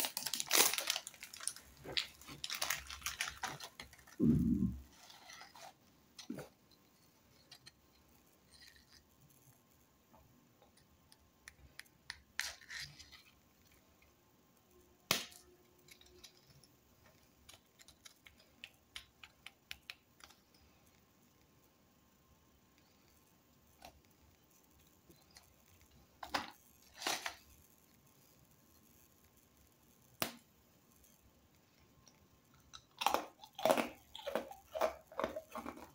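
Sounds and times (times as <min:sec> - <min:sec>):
biscuits clicking and crackling: 0:00.0 - 0:14.1, 0:15.0 - 0:21.6, 0:22.5 - 0:35.9.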